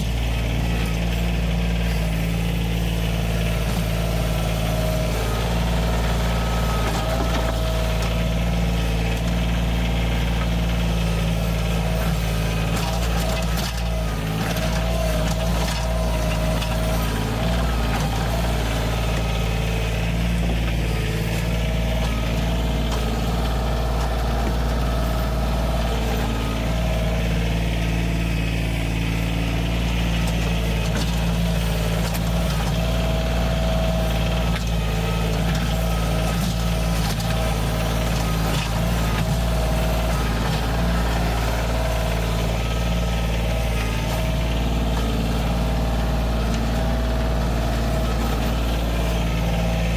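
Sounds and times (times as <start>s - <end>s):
loader bucket digging rocky soil: 0.0s - 49.9s
tractor engine running: 0.0s - 49.9s.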